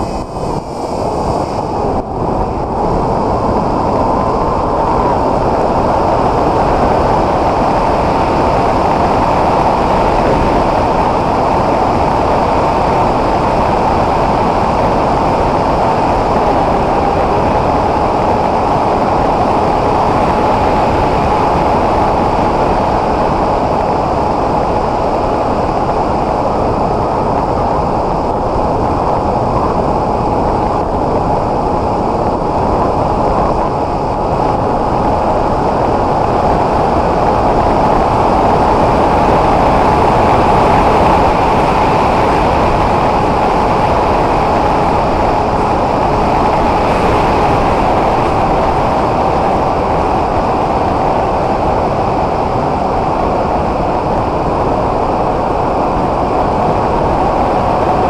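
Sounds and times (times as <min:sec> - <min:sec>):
air rushing over microphone: 0:00.0 - 0:58.0.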